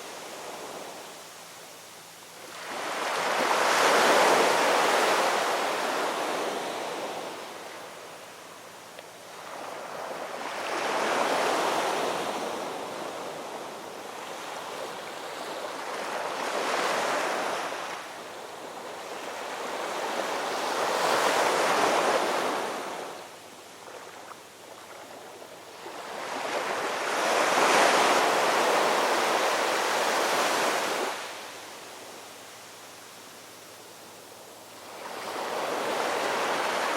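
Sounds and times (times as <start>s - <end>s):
ocean waves breaking on shore: 2.4s - 33.6s, 34.3s - 36.9s.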